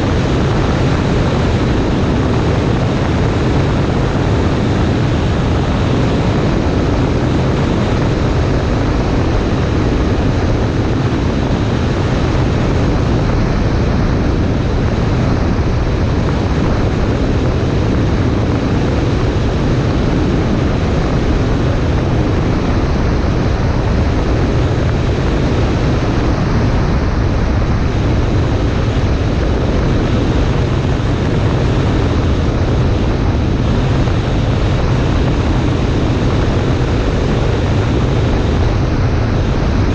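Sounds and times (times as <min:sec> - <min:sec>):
propeller plane engine running: 0:00.0 - 0:39.9
rush of air: 0:00.0 - 0:39.9.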